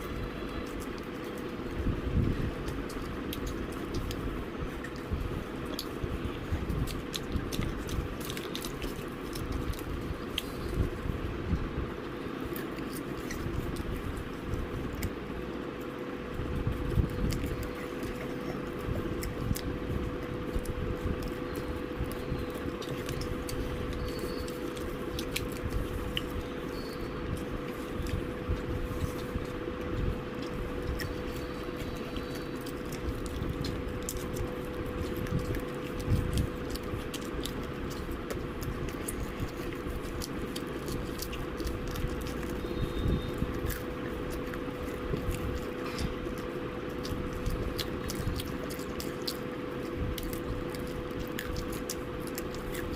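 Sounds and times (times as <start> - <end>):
person chewing crunchy food: 0.0 - 52.9
steady hum: 0.0 - 52.9.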